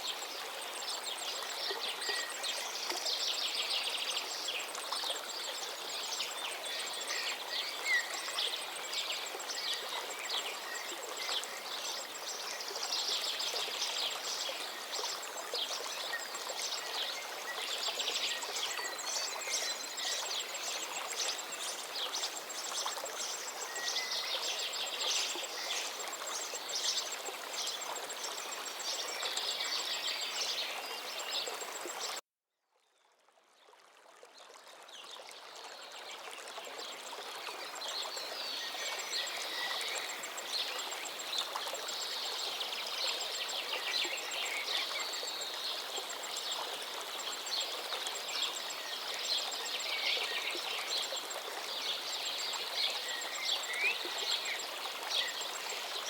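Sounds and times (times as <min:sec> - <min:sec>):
river flowing: 0:00.0 - 0:32.2, 0:33.4 - 0:56.0
songbirds singing: 0:00.0 - 0:32.2, 0:37.4 - 0:56.0.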